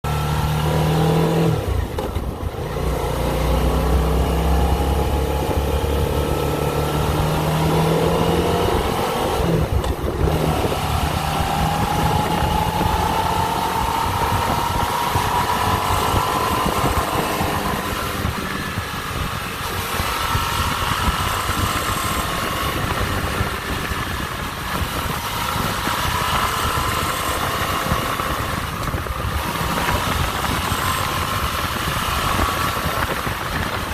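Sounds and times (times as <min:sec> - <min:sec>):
motorcycle engine accelerating: 0:00.0 - 0:33.9
wind noise: 0:00.1 - 0:33.9.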